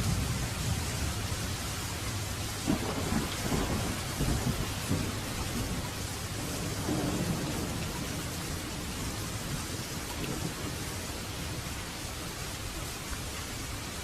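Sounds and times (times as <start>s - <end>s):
thunder rumbling: 0.0s - 12.3s
steady rain: 0.0s - 14.0s.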